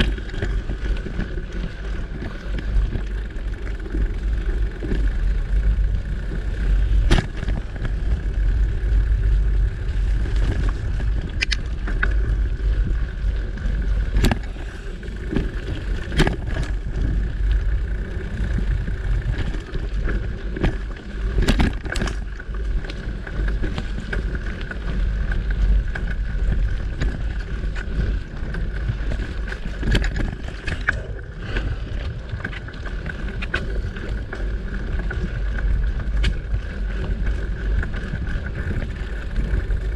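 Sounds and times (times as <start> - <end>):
bike clicks and rattles: 0.0 - 39.9
bike tyre noise on dirt: 0.0 - 39.9
wind rumble on microphone: 0.0 - 39.9.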